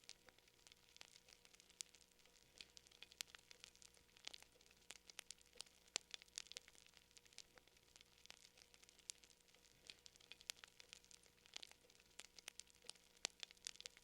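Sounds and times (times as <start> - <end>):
faint steady hum: 0.0 - 14.0
wood fire crackling and popping: 0.0 - 14.0.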